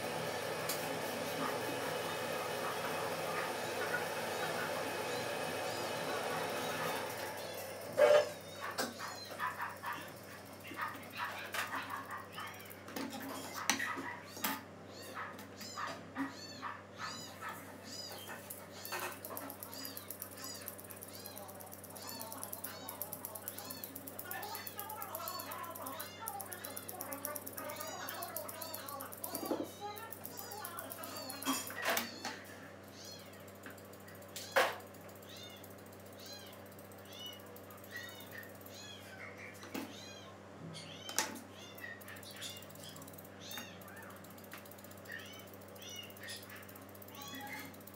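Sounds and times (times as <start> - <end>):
small animal crying: 6.6 - 12.8, 13.4 - 47.9.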